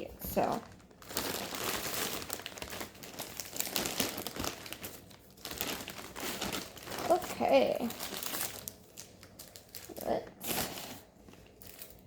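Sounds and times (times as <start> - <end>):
packaging crinkling and rustling: 0.2 - 12.0.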